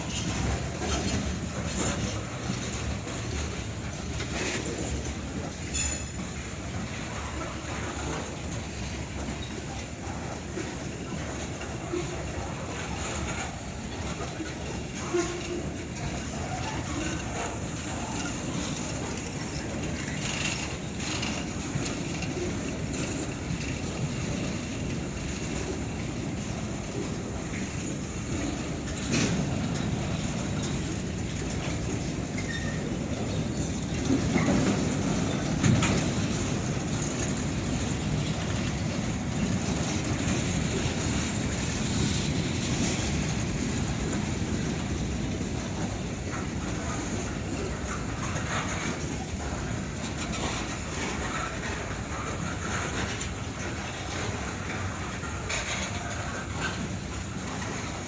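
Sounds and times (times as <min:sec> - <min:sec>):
freight train cars rolling on rails: 0:00.0 - 0:58.0.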